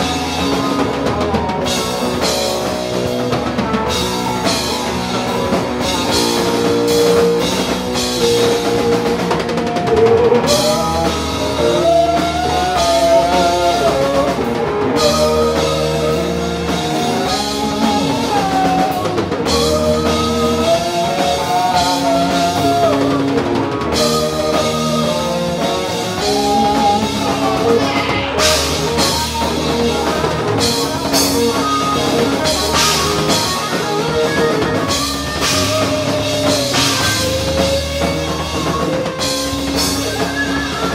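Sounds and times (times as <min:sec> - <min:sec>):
bending guitar lead melody: 0:00.0 - 0:40.9
live rock band playing: 0:00.0 - 0:40.9.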